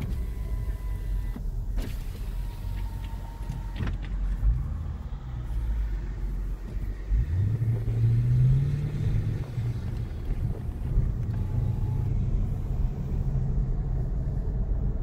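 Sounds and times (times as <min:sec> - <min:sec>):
engine exhaust rumble: 0:00.0 - 0:15.0.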